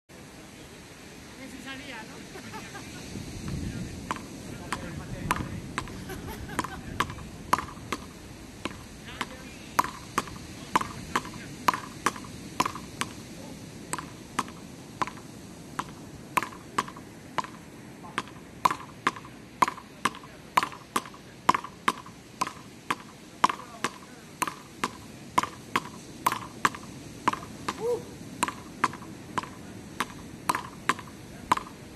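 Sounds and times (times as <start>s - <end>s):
wooden paddles striking ball: 3.5s - 6.0s, 6.6s - 13.3s, 13.9s - 31.9s.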